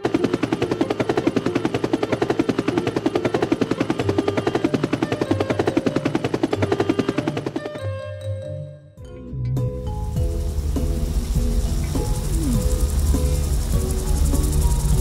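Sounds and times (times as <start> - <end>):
helicopter rotor chopping: 0.0 - 7.9, 9.9 - 15.0.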